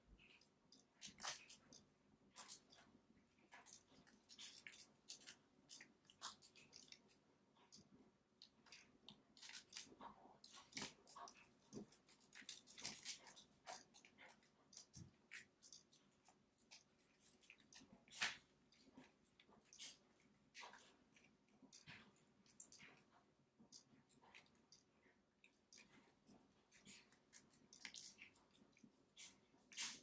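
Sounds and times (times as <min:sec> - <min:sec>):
birds pecking and chewing: 0:00.0 - 0:30.0.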